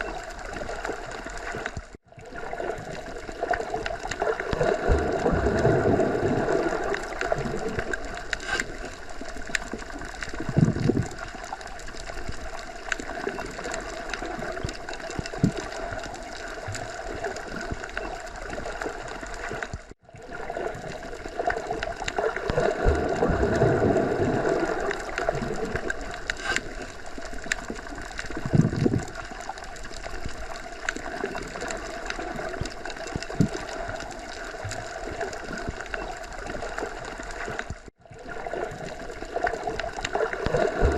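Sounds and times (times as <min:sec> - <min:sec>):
muffled underwater rush: 0:00.0 - 0:40.9
water gurgling: 0:00.0 - 0:40.9.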